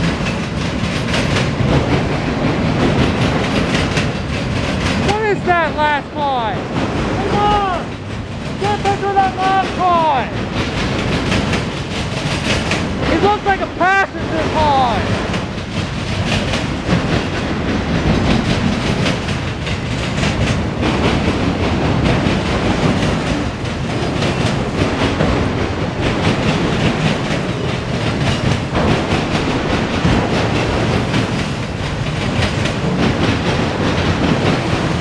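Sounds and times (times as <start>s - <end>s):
steel wheels rumbling on rail: 0.0s - 35.0s
wheels clicking over rail joints: 0.0s - 35.0s.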